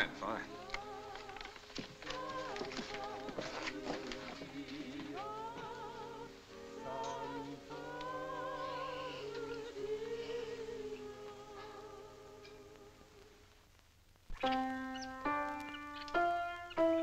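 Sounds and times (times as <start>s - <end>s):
slow film music melody: 0.0s - 13.2s, 14.4s - 17.0s.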